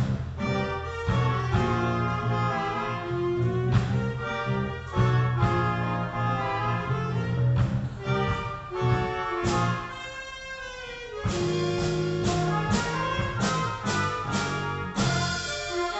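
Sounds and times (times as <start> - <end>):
school band playing: 0.0 - 15.9.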